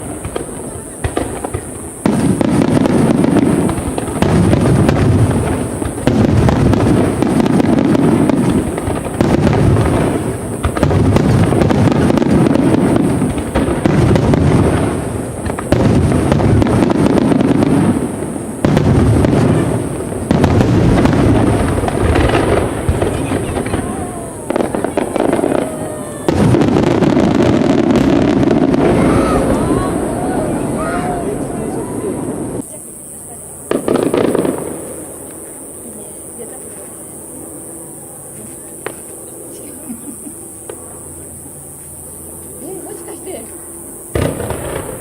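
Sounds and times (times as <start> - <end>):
firework booms: 0.0 - 37.1, 44.1 - 45.0
firework crackling: 0.0 - 45.0.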